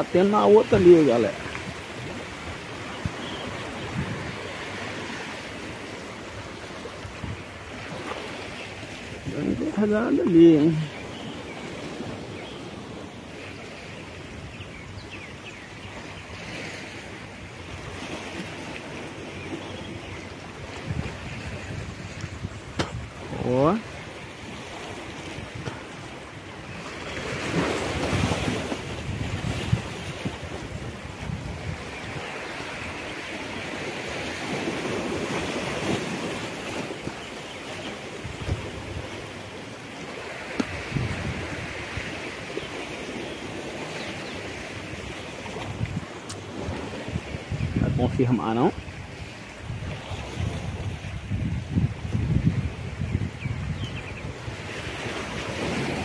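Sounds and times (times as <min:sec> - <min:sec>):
wind on microphone: 0:00.0 - 0:15.2, 0:15.9 - 0:56.0
sea surf washing on shore: 0:00.0 - 0:56.0.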